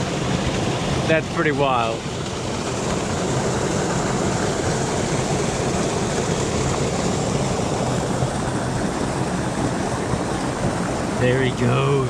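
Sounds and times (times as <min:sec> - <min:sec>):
water rushing from spillway: 0:00.0 - 0:12.0.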